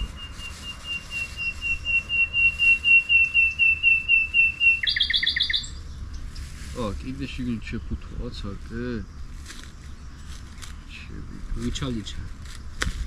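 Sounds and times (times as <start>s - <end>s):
songbird calling: 0.0s - 13.0s.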